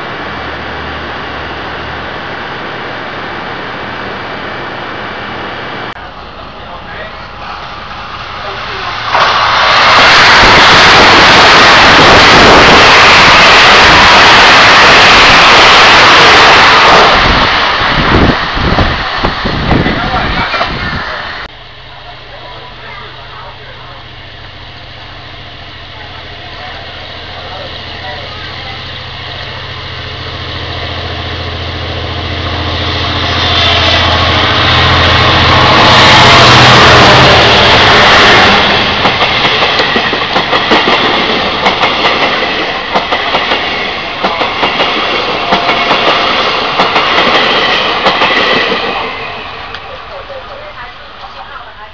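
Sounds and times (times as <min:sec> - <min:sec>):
diesel locomotive engine approaching: 0:00.0 - 0:51.9
passenger train rushing past: 0:00.0 - 0:51.9.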